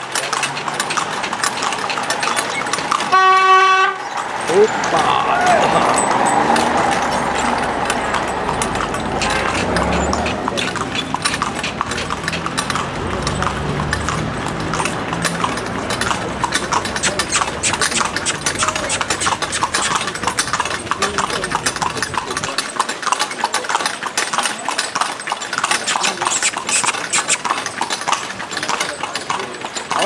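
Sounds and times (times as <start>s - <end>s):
vehicle engine humming: 0.0s - 22.6s, 25.6s - 28.5s
horse hooves trotting on pavement: 0.0s - 30.0s.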